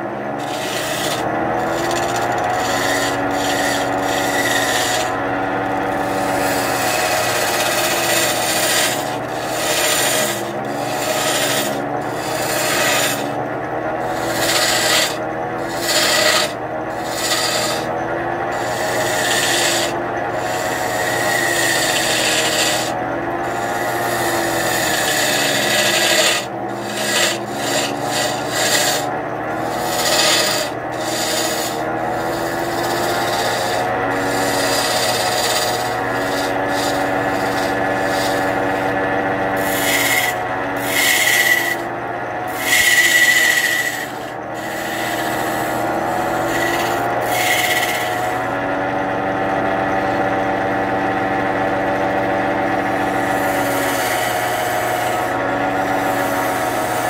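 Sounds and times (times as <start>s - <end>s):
chisel scraping spinning wood: 0.0s - 57.0s
wood lathe humming: 0.0s - 57.0s.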